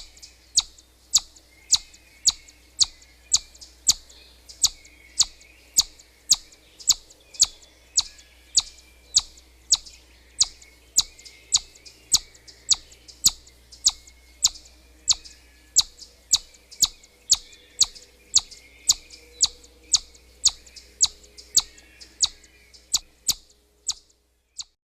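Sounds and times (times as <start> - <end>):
chipmunk alarm chirps: 0.0 - 24.8.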